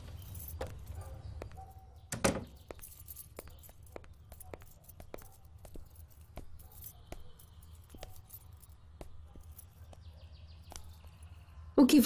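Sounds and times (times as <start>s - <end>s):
faint footsteps: 0.0s - 11.5s.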